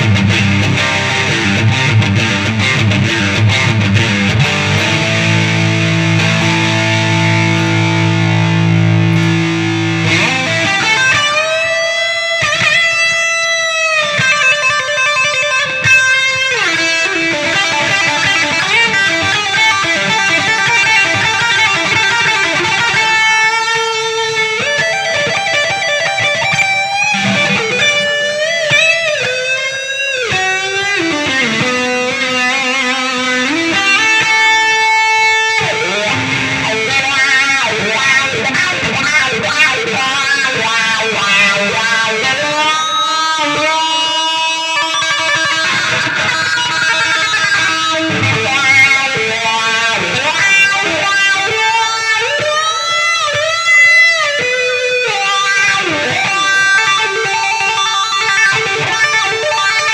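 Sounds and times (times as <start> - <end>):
electric guitar with effects: 0.0 - 59.9.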